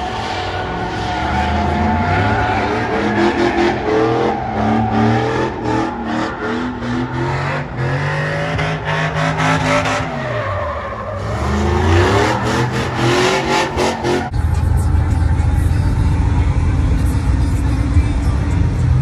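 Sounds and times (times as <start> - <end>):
engine revving: 0.0 - 10.4, 11.1 - 19.0
tires squealing: 0.0 - 18.9.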